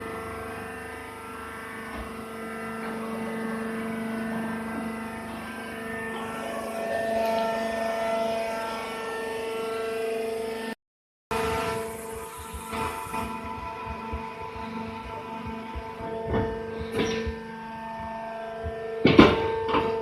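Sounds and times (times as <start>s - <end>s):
baling machine humming: 0.0s - 20.0s.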